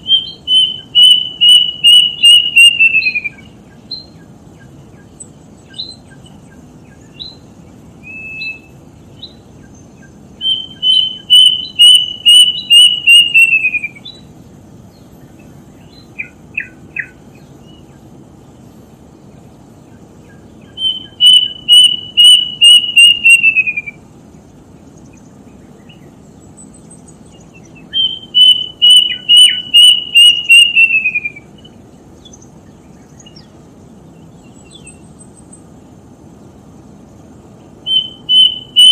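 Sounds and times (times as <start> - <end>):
bird whistling song: 0.0 - 14.3, 14.9 - 18.0, 19.9 - 24.1, 24.8 - 33.6, 34.2 - 35.6, 37.8 - 38.9.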